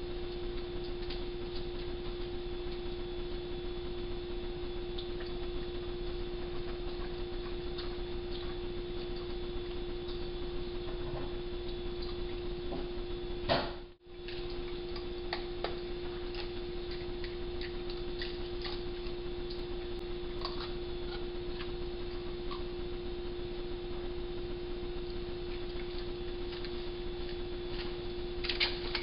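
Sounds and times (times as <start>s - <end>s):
steady electronic hum: 0.0s - 29.0s.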